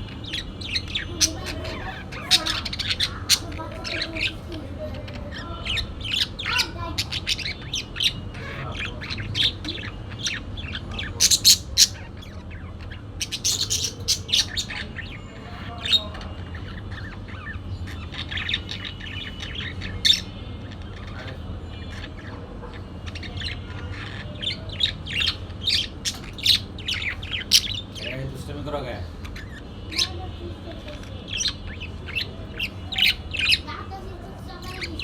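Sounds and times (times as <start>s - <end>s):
parakeets chirping and squawking: 0.0s - 35.0s.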